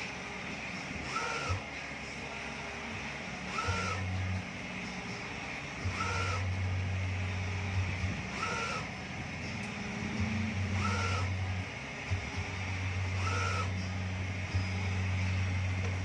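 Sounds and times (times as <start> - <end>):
printer carriage motor hum: 0.0 - 16.0
printer carriage whine: 0.0 - 16.0.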